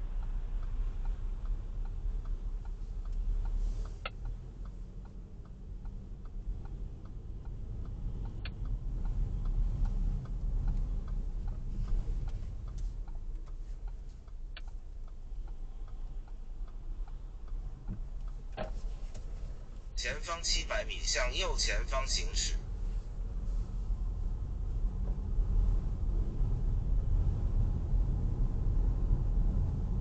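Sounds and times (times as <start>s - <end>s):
car engine and road rumble: 0.0s - 30.0s
turn signal ticking: 0.0s - 30.0s.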